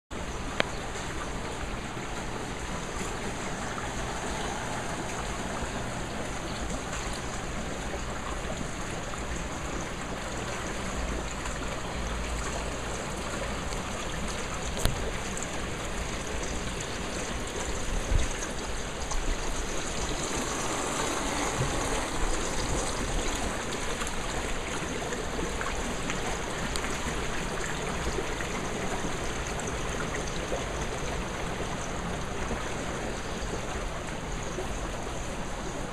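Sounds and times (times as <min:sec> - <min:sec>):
water rushing and bubbling: 0:00.1 - 0:35.9
water pouring into pool: 0:00.2 - 0:35.9.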